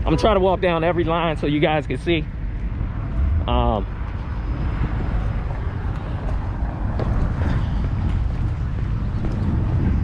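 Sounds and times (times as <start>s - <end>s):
car traffic: 0.0s - 10.0s
wind buffeting microphone: 0.0s - 10.0s.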